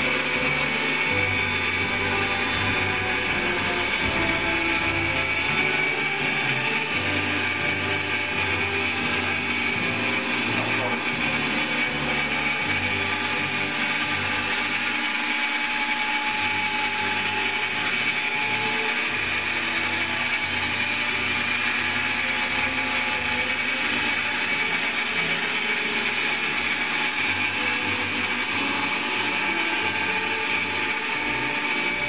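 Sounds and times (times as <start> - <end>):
electric motor whine: 0.0 - 32.0
machinery running: 0.0 - 32.0.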